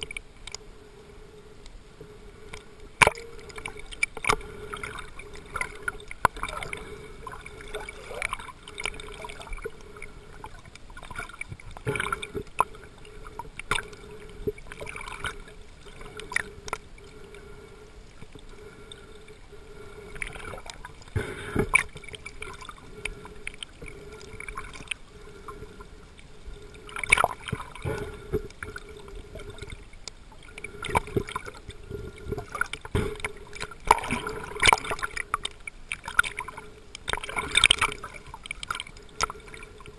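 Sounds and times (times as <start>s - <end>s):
underwater knocks and gurgles: 0.0s - 0.6s, 2.0s - 39.9s
steady low hum: 0.0s - 39.9s.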